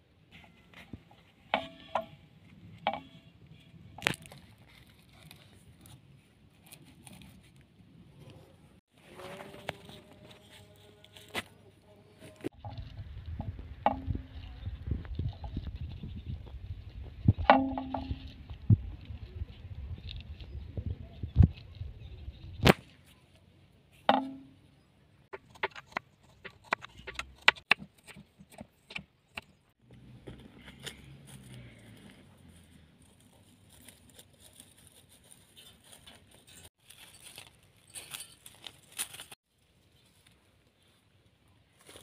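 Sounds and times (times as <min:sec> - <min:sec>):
straw and twigs rustling: 0:00.3 - 0:24.5, 0:30.1 - 0:42.0.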